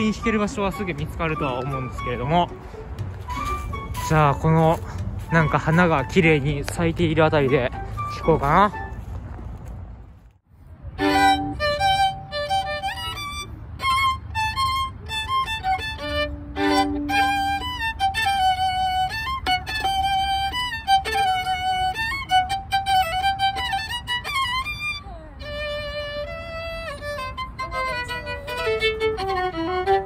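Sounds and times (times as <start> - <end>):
violin melody: 0.0 - 9.7, 10.6 - 30.0.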